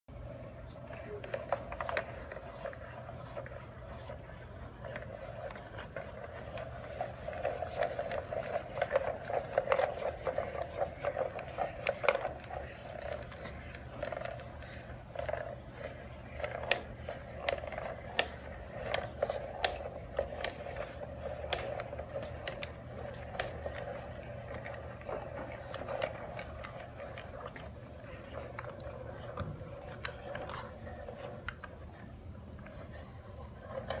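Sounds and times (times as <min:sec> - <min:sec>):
room hum: 0:00.1 - 0:34.0.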